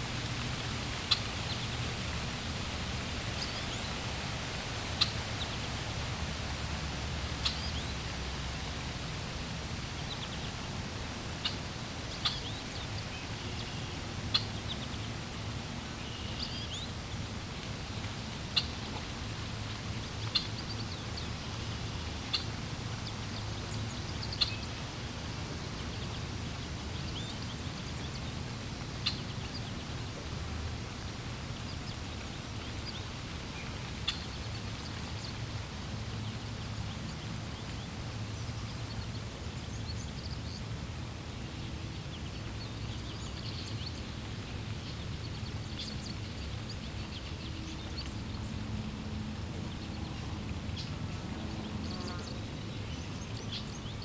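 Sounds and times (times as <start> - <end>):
flowing water rumble: 0.0 - 54.0.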